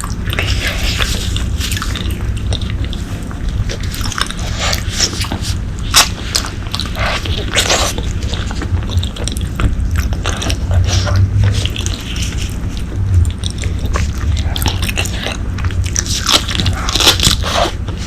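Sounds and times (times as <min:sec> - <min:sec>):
close chewing with wet mouth clicks: 0:00.0 - 0:18.0
steady low hum: 0:00.0 - 0:18.0.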